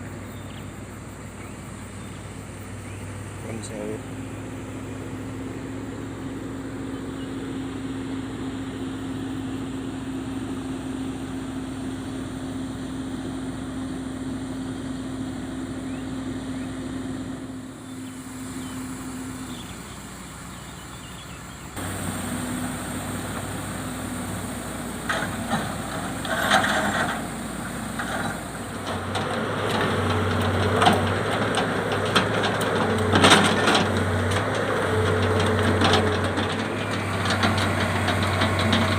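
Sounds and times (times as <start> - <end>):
diesel machinery running: 0.0 - 38.9.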